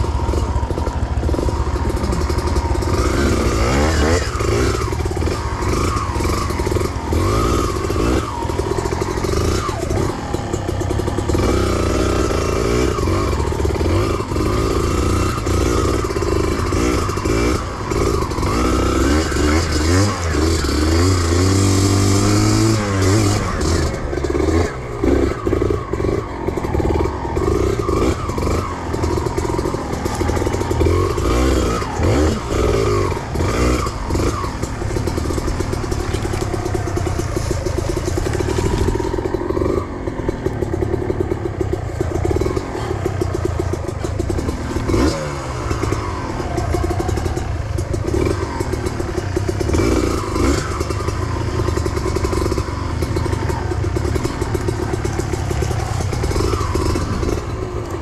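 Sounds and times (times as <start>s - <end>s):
motorcycle engine revving hard: 0.0s - 58.0s
rattling and clatter: 0.0s - 58.0s.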